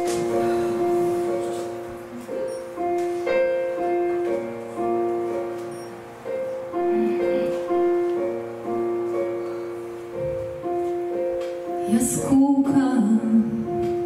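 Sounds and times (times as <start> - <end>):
slow gentle piano: 0.0 - 14.0.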